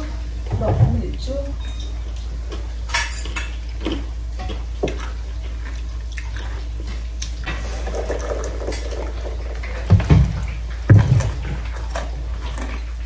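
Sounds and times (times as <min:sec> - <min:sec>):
steady low hum: 0:00.0 - 0:13.0
chewing: 0:01.7 - 0:13.0.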